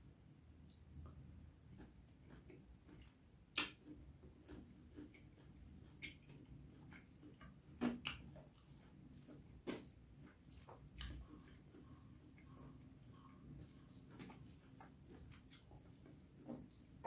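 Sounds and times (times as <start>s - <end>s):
wet chewing sounds: 0.6s - 17.0s.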